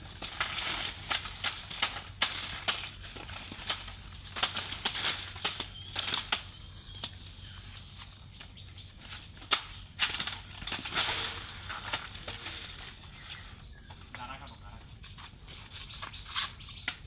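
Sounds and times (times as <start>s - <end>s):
rustling and crunching stem: 0.0s - 17.0s.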